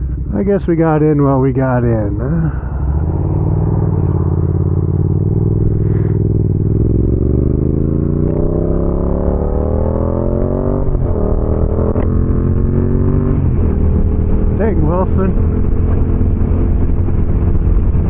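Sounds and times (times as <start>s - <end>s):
low wind rumble: 0.0s - 18.0s
motorcycle engine accelerating: 0.0s - 18.0s.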